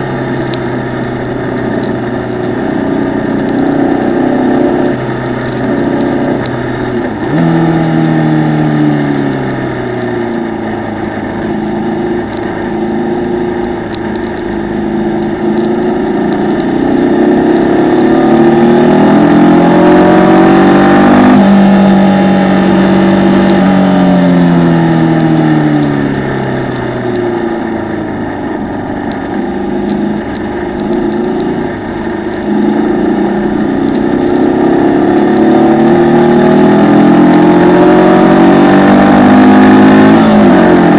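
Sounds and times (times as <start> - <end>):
racing car engine: 0.0 - 40.9.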